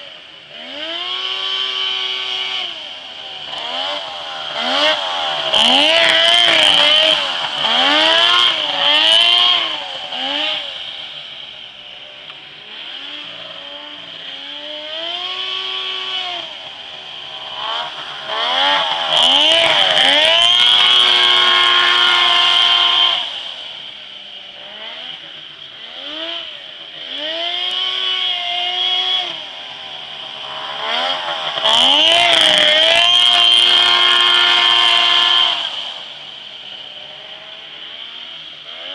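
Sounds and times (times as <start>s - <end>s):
high engine whine: 0.0s - 38.9s
snowmobile engine revving: 0.0s - 38.9s.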